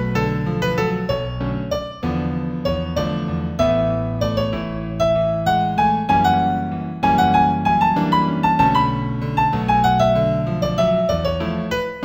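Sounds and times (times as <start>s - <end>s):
solo piano new age piece: 0.0s - 12.0s.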